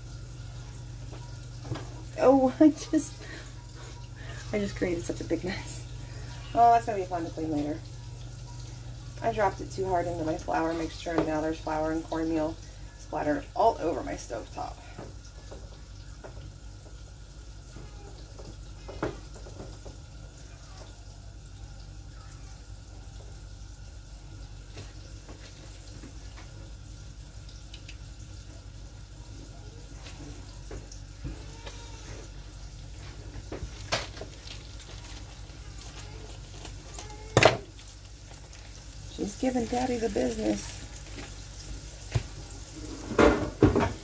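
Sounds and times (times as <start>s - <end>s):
hot oil sizzling in a skillet: 0.0s - 44.0s.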